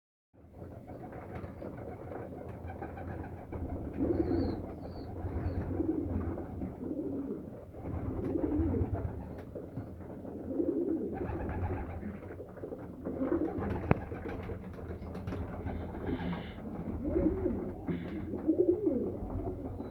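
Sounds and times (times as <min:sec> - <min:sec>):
pigeons cooing: 0:00.7 - 0:19.9.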